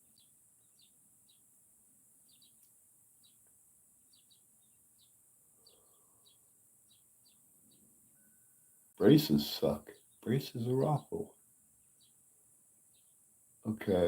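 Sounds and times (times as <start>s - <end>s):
faint high-pitched bird chirps: 0.0s - 1.5s, 2.2s - 12.2s, 12.8s - 14.0s.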